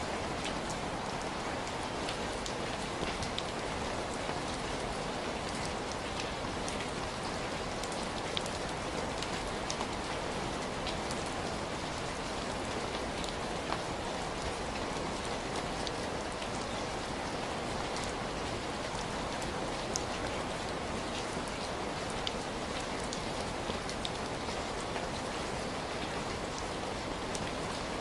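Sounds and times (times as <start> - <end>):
raindrops pattering on surface: 0.0 - 28.0.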